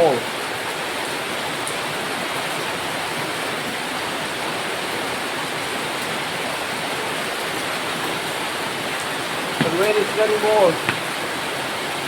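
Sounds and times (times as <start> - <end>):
rain pouring down: 0.0 - 12.0.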